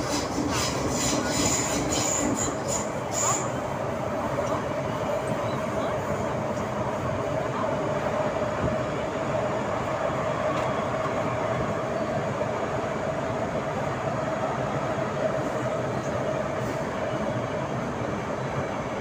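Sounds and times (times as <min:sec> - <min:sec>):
underground train running: 0:00.0 - 0:19.0.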